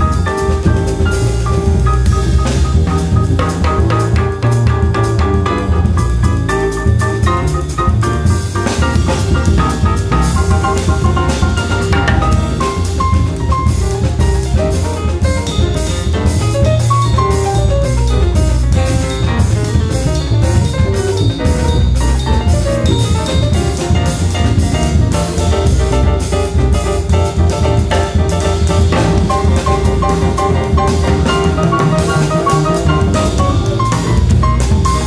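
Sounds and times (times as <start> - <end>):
drum kit beat: 0.0 - 35.0
piano: 0.0 - 35.0
walking double bass: 0.0 - 35.0.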